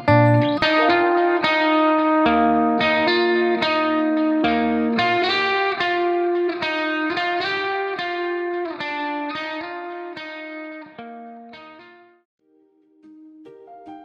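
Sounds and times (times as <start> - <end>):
guitar plucking chords: 0.0 - 12.2.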